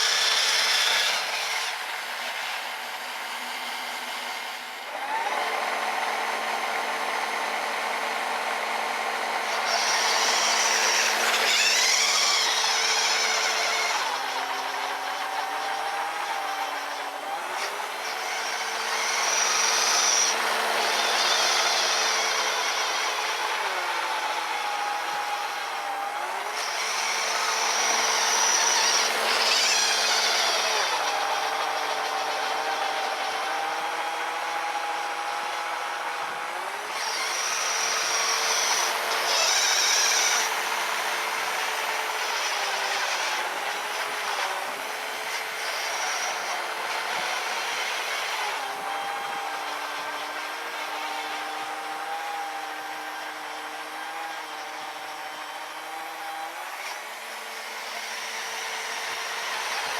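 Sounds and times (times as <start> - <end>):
electric motor whining: 0.0 - 59.9.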